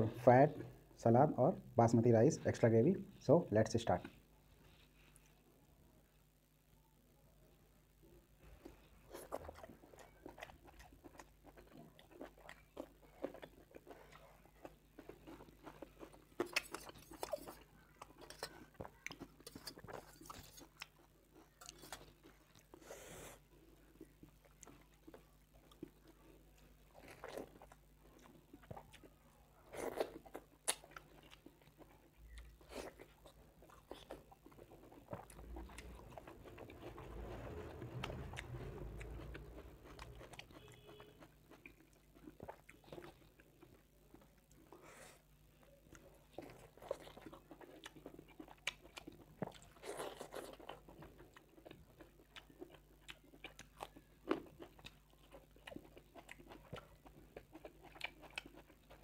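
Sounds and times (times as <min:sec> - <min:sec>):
close chewing and mouth clicks: 0:08.4 - 0:59.0.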